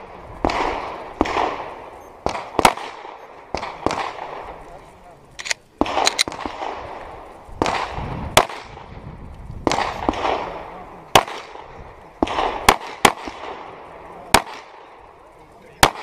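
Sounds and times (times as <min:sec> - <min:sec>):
pistol shots with echo: 0:00.0 - 0:04.6, 0:05.4 - 0:07.0, 0:07.6 - 0:08.9, 0:09.6 - 0:15.0, 0:15.8 - 0:16.0.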